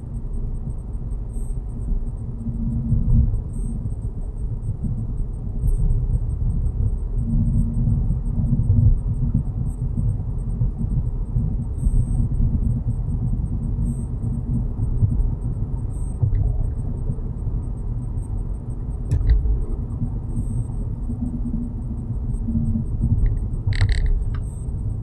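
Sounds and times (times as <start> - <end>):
car rolling rumble: 0.0 - 25.0.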